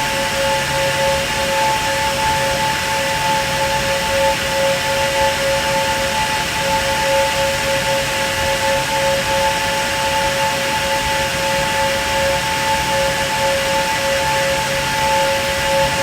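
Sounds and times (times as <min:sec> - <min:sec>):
cooling fans rushing air: 0:00.0 - 0:16.0.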